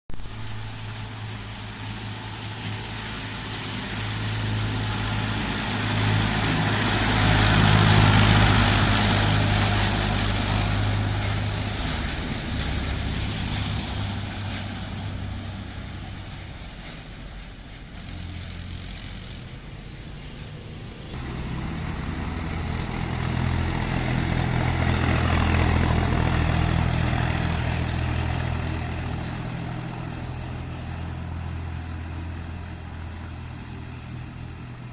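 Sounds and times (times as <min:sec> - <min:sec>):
tractor diesel engine drone: 0:00.1 - 0:34.9
tyre and road noise: 0:00.1 - 0:34.9.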